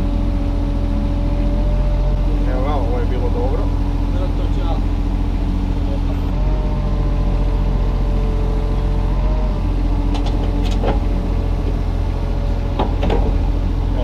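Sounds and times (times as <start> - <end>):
diesel excavator engine running: 0.0 - 14.0.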